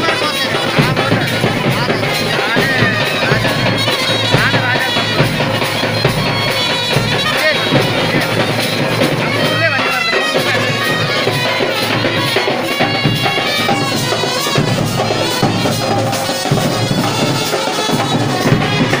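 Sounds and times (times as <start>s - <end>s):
drums beating: 0.0s - 19.0s
folk melody: 0.0s - 19.0s.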